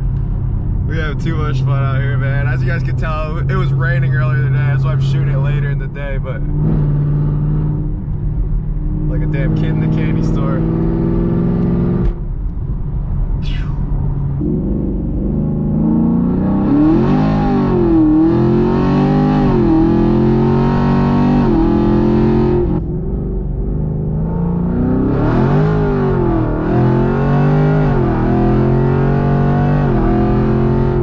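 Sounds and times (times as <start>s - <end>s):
car engine at full throttle: 0.0s - 31.0s.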